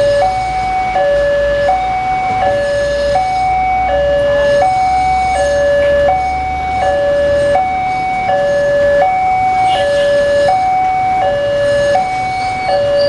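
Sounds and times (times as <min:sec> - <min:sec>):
two-note crossing alarm: 0:00.0 - 0:13.0.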